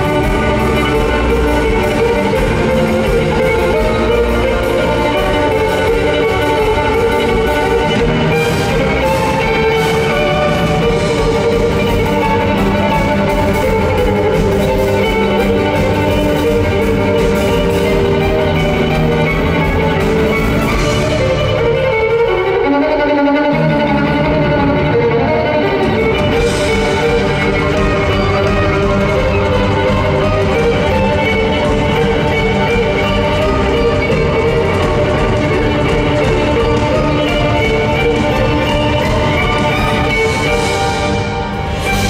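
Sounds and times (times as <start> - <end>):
backing instruments: 0.0 - 42.0
violin playing: 0.0 - 42.0.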